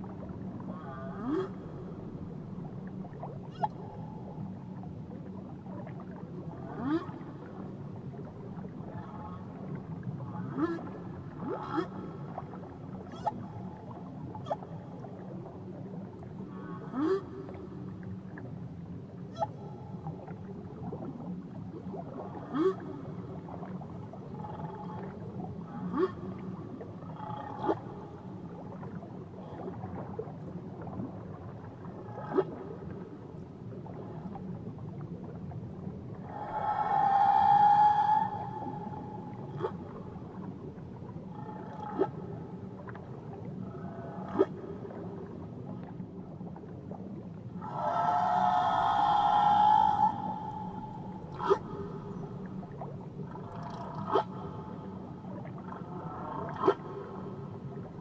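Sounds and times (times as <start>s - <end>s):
whale calls underwater: 0.0s - 18.5s, 19.1s - 58.0s
low underwater hiss: 0.0s - 58.0s.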